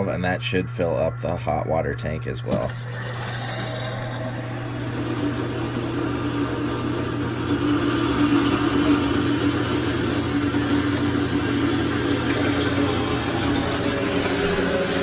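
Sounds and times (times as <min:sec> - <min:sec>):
electric water pump humming: 0:00.0 - 0:15.0.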